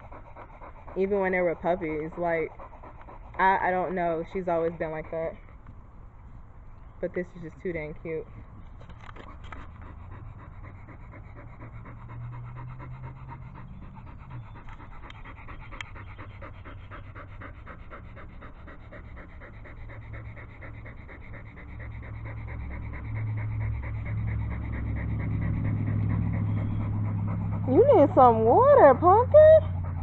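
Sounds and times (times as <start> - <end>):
dog panting: 0.0 - 5.9, 7.0 - 30.0.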